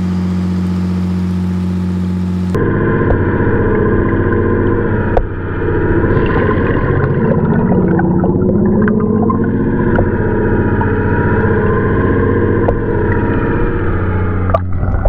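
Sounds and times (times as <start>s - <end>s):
muffled boat engine underwater: 0.0s - 15.0s.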